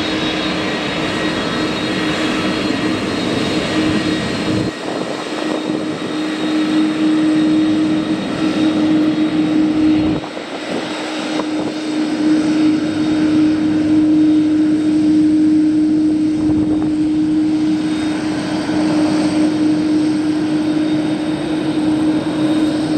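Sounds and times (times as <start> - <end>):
jet engines droning: 0.0 - 22.9.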